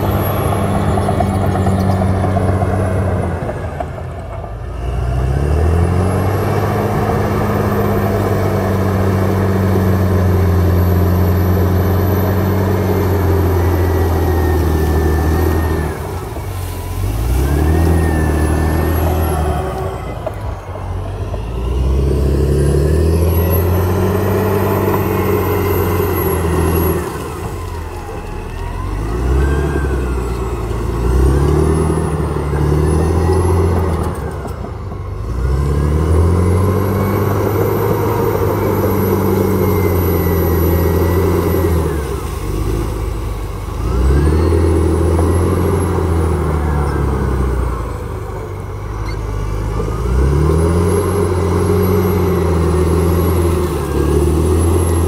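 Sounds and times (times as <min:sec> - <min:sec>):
bulldozer diesel engine under load: 0:00.0 - 0:55.0
high engine whine: 0:00.0 - 0:55.0.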